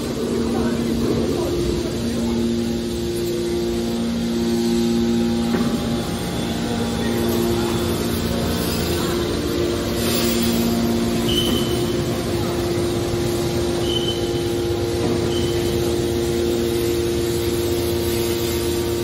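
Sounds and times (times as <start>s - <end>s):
hydraulic pump motors humming: 0.0s - 19.0s
mechanical rumble: 0.0s - 19.0s.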